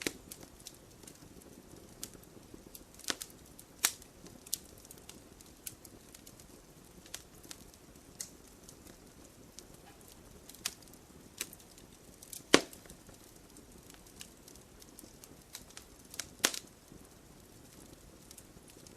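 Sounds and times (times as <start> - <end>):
low steady hiss: 0.0 - 18.9
wood fire crackling and popping: 0.0 - 18.9.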